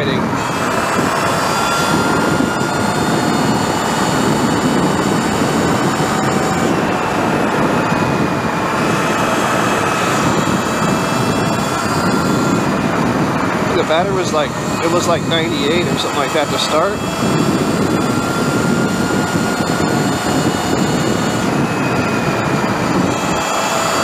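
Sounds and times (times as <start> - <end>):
electric motor whining: 0.0 - 24.0
wind rush and tyre noise: 0.0 - 24.0.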